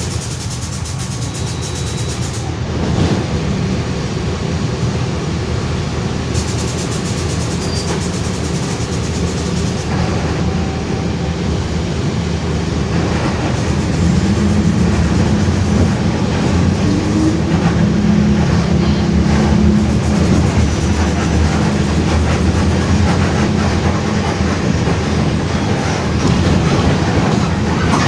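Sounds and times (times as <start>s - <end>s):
bus differential droning: 0.0s - 28.0s
rumble of moving bus: 0.0s - 28.0s.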